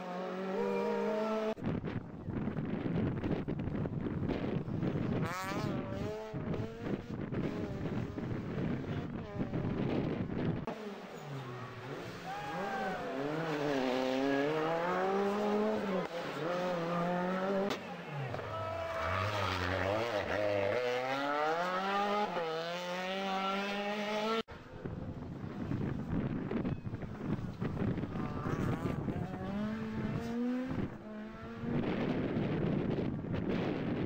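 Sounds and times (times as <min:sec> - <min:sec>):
rally car engine revving: 0:00.0 - 0:01.6, 0:04.4 - 0:24.5, 0:27.1 - 0:32.9.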